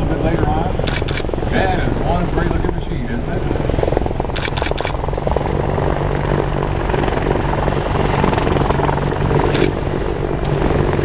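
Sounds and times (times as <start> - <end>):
helicopter rotor chop: 0.0 - 11.0
turboshaft engines droning: 0.0 - 11.0.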